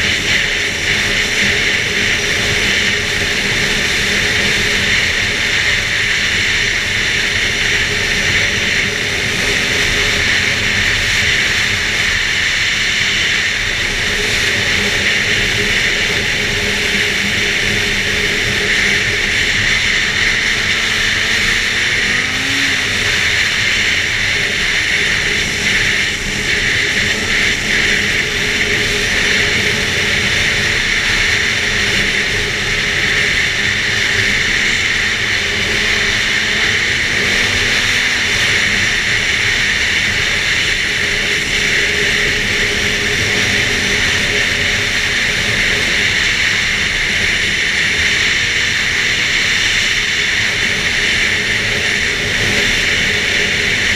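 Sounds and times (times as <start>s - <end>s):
snowmobile engine running: 0.0s - 53.9s.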